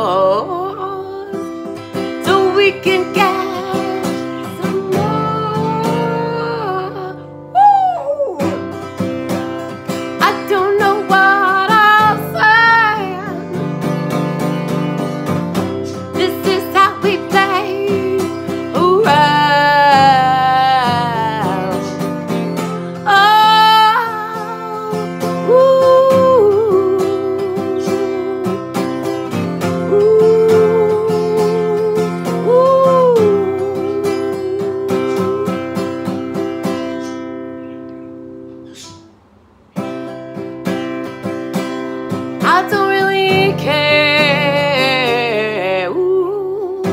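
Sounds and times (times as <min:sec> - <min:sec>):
woman singing slow song: 0:00.0 - 0:13.7, 0:15.6 - 0:37.0, 0:42.2 - 0:46.9
acoustic guitar: 0:00.0 - 0:46.9.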